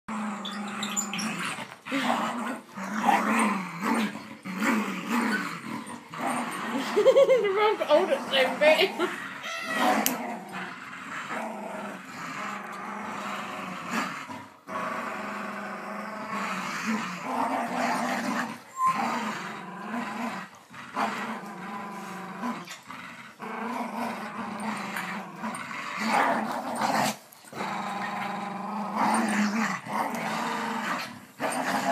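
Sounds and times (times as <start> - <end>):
dogs growling playfully: 0.1 - 31.9.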